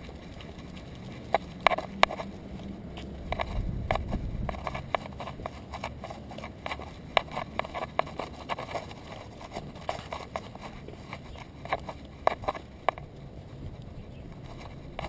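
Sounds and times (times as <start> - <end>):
dog footsteps on concrete: 0.0 - 15.0.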